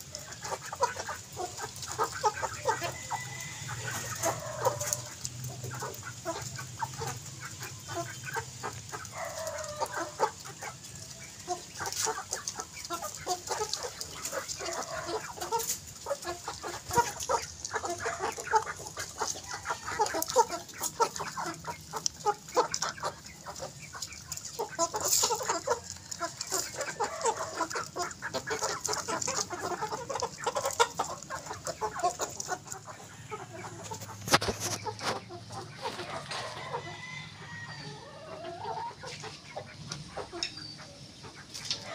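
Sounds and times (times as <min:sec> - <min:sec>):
beaks pecking grain off gravel: 0:00.0 - 0:41.9
hens clucking: 0:00.0 - 0:41.9.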